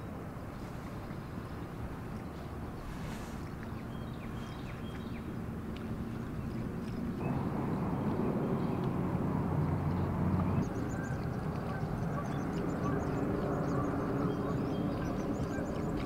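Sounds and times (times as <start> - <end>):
boat motor humming: 1.1 - 16.0.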